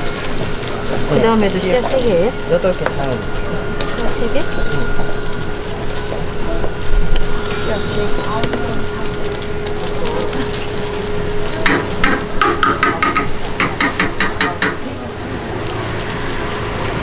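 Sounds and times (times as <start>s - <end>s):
steady hum: 0.0s - 17.0s
street food stall background noise: 0.0s - 17.0s.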